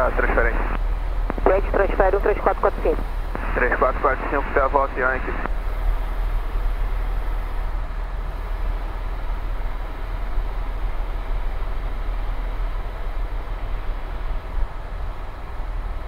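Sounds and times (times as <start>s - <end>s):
helicopter cockpit rumble: 0.0s - 16.0s.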